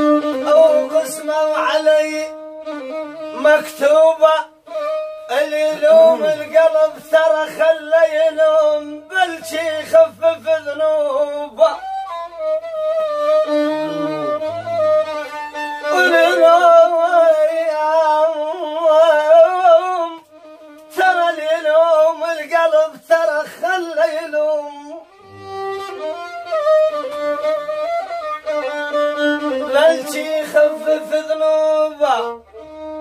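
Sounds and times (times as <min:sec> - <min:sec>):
solo violin melody: 0:00.0 - 0:22.4, 0:24.5 - 0:33.0.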